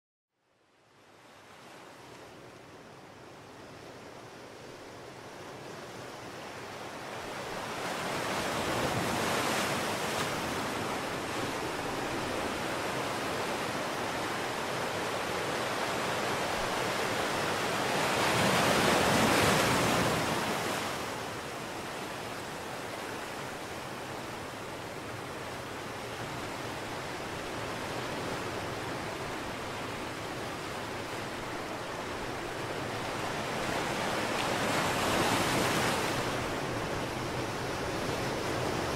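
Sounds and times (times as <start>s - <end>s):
sea surf rushing: 6.7s - 38.9s.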